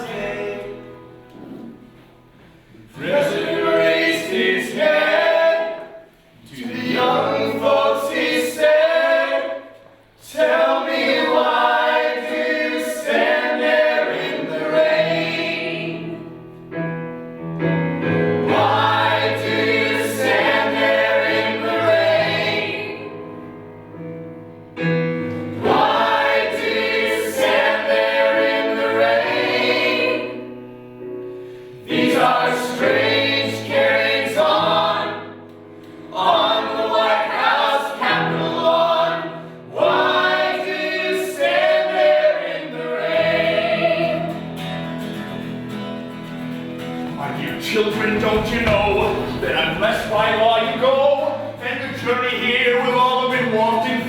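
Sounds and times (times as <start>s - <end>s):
group of voices singing: 0.0s - 2.1s, 2.7s - 16.6s, 18.4s - 23.3s, 25.4s - 44.7s, 47.2s - 54.0s.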